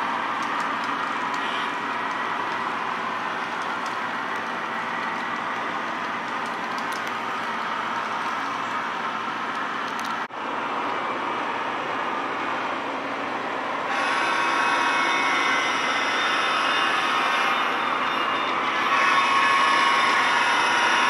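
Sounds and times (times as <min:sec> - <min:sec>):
model train rumble and whir: 0:00.0 - 0:21.0.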